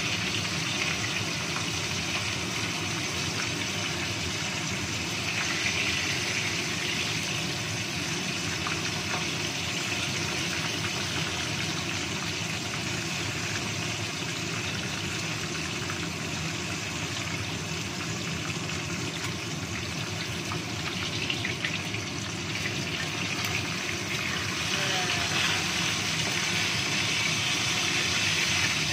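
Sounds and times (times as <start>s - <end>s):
fish sizzling in hot oil: 0.0s - 28.9s.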